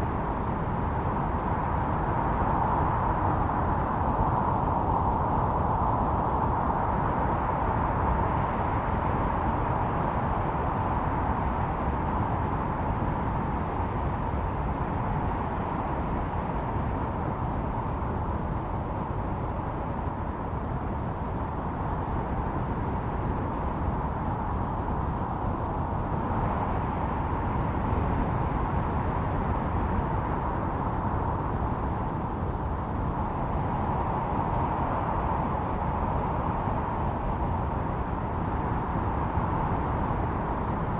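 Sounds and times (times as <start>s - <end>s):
wind howling and whistling: 0.0s - 40.9s.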